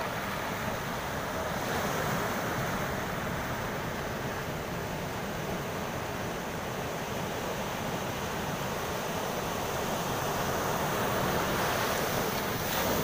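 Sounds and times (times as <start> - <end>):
waves breaking on sand: 0.0 - 13.0.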